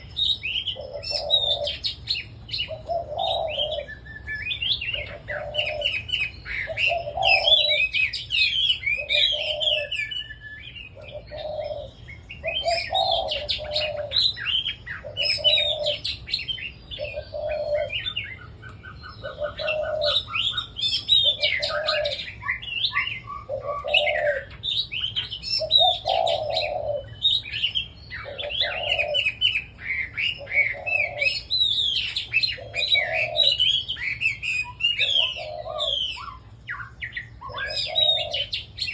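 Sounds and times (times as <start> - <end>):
birds singing warbling phrases: 0.0 - 38.9.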